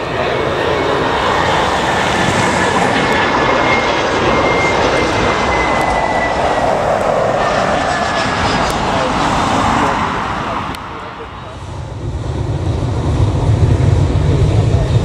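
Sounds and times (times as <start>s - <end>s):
high engine whine: 0.0s - 15.0s
jet airliner engines roaring: 0.0s - 15.0s.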